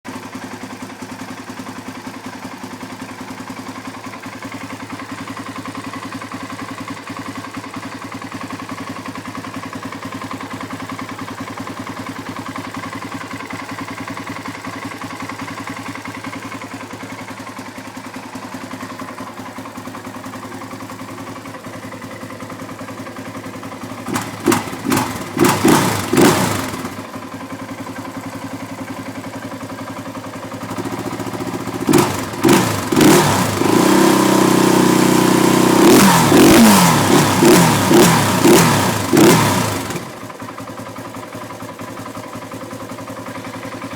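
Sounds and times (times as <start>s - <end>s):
quad engine idling and revving: 0.0s - 43.9s.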